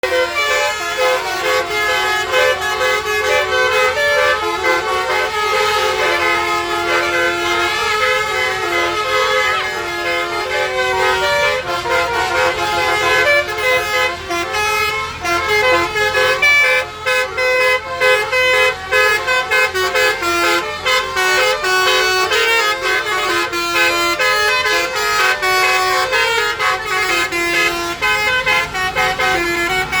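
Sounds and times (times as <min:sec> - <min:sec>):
bus horn playing melody: 0:00.0 - 0:30.0.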